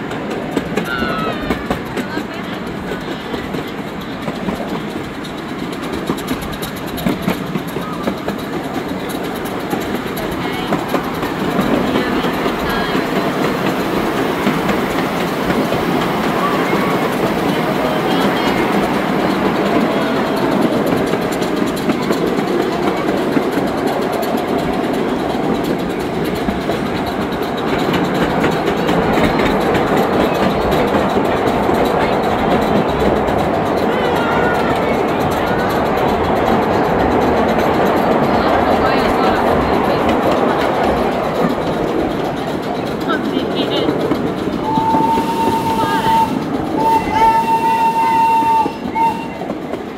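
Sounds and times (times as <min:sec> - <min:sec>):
train cars rumbling on track: 0:00.0 - 0:49.9
wheels clacking and rattling: 0:00.0 - 0:49.9.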